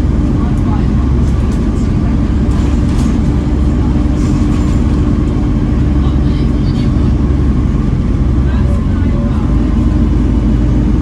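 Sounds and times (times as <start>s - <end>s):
bus diesel engine droning: 0.0s - 11.0s.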